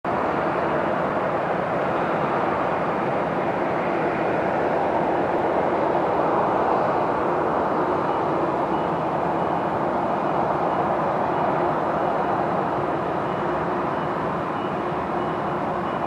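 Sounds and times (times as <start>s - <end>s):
jet engines at takeoff thrust: 0.1s - 16.0s.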